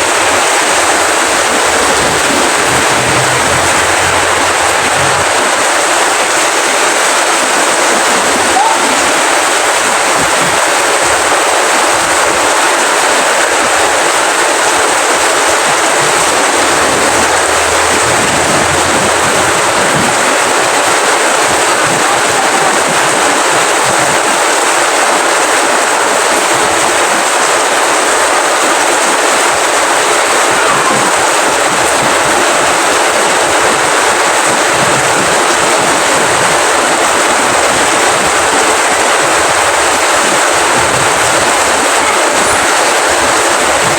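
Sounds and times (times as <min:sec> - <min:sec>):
steady rainfall hiss: 0:00.0 - 0:43.9.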